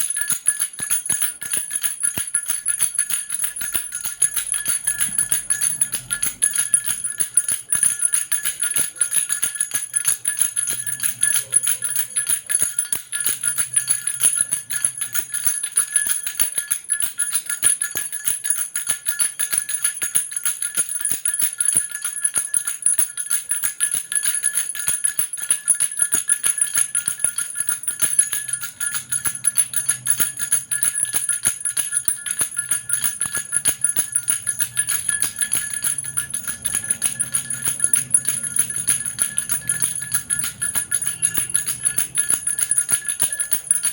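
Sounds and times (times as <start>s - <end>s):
baby rattle bells jingling: 0.0s - 43.9s.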